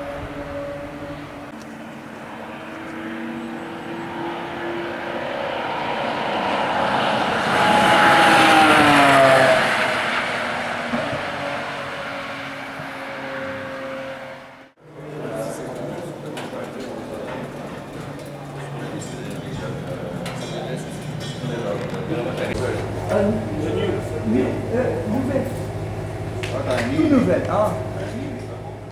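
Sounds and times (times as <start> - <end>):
race car engine passing by: 0.0 - 28.9.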